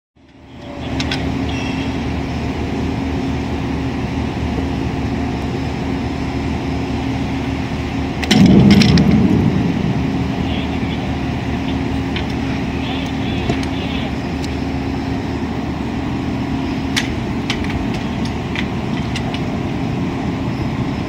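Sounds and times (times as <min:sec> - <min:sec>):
crane machinery humming: 0:00.2 - 0:21.0.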